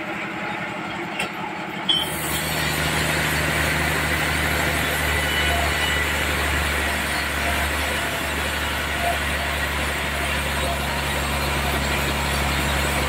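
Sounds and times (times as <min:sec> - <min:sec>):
low engine hum: 0:01.8 - 0:13.0
sawmill saw cutting log: 0:02.0 - 0:13.0.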